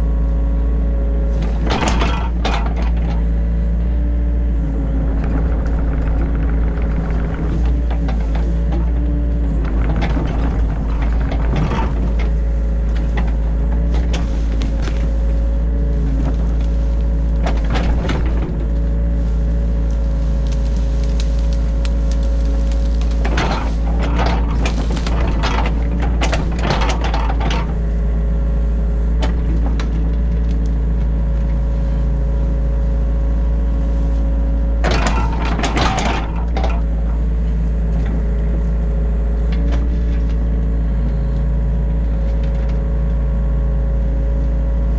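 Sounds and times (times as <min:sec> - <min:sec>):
excavator diesel engine droning: 0:00.0 - 0:44.9
excavator digging clatter and scraping: 0:00.0 - 0:44.9.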